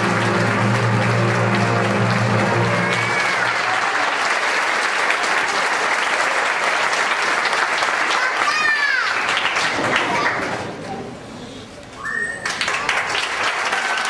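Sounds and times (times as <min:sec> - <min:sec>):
audience applauding: 0:00.0 - 0:10.6, 0:12.4 - 0:14.0.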